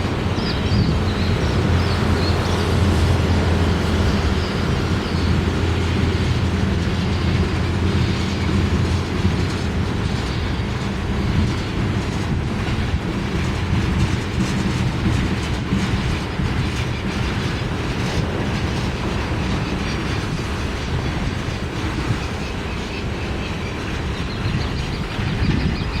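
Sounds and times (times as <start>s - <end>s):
locomotive hum: 0.0s - 26.0s
train wheels rumbling on rails: 0.0s - 26.0s
wheels clacking over rail joints: 0.0s - 26.0s.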